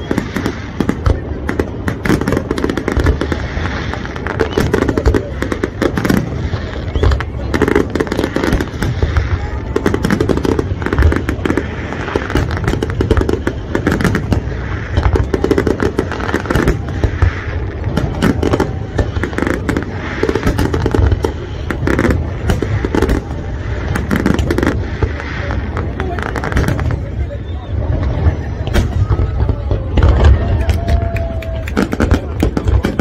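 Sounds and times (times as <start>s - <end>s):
fireworks booming and popping: 0.0s - 33.0s.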